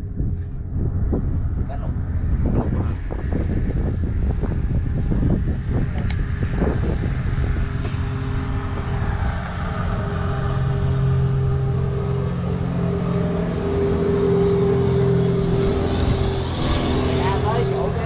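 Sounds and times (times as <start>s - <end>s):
engine droning: 0.0s - 18.0s
wind buffeting microphone: 0.0s - 18.0s.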